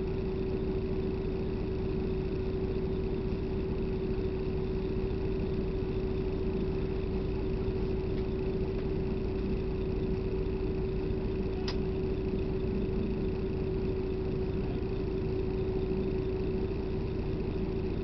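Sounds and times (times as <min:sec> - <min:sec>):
constant hum: 0:00.0 - 0:18.0.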